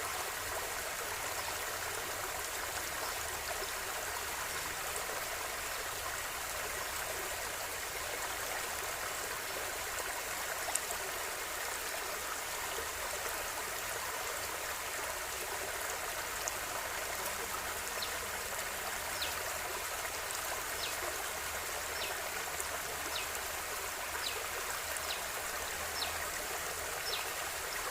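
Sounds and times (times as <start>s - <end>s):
river water flowing over rocks: 0.0s - 27.9s.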